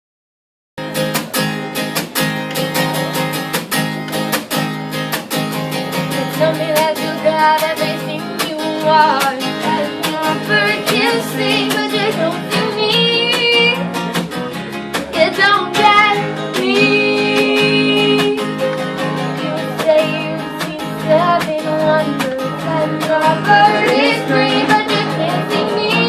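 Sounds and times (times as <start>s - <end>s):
acoustic guitar strumming: 0.8s - 26.0s.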